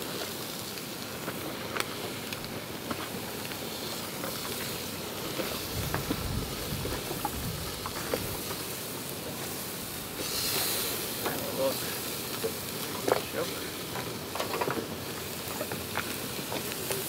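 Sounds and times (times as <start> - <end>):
squid sizzling on a grill: 0.0 - 17.0.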